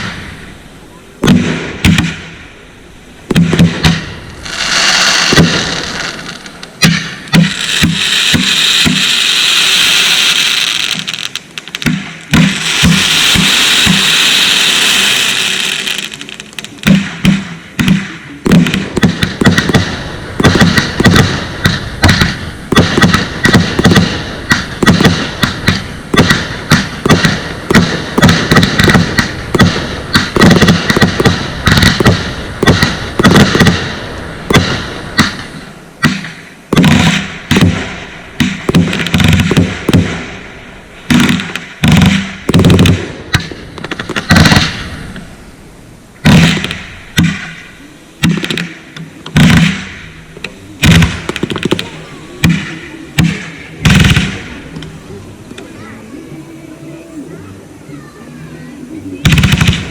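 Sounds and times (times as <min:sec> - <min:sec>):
firework bangs: 0:00.0 - 0:55.8, 0:59.2 - 0:59.9
firework hissing rush: 0:03.2 - 0:59.9.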